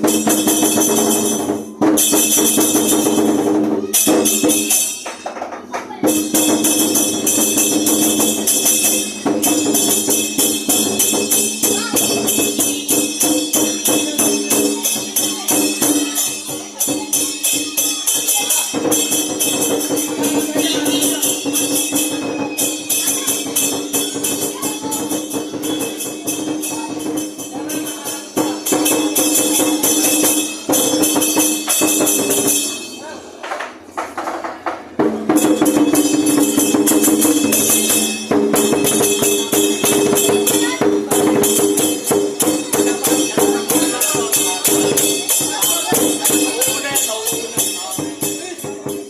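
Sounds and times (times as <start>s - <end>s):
clashing cymbals: 0.0s - 5.3s, 6.0s - 33.4s, 34.9s - 49.0s
ringing gongs: 0.0s - 5.3s, 6.0s - 33.4s, 35.0s - 49.0s
drum beat: 0.0s - 49.0s.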